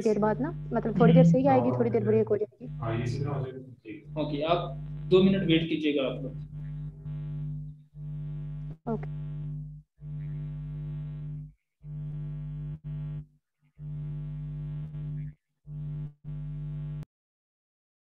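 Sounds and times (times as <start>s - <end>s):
buzzy electrical hum: 0.0s - 13.2s, 13.8s - 17.0s.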